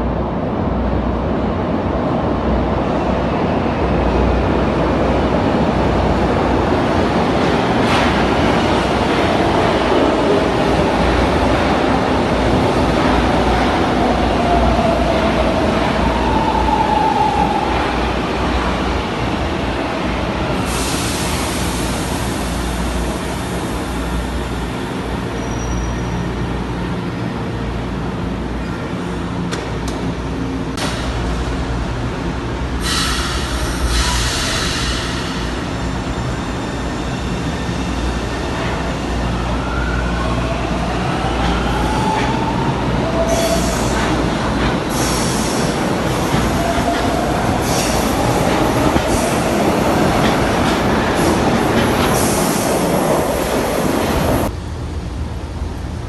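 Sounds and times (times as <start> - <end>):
electric train rumbling on track: 0.0 - 56.0.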